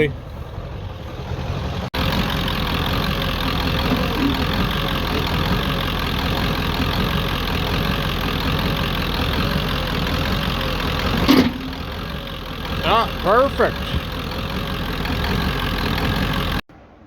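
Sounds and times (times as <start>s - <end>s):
diesel engine idling: 0.0s - 16.6s.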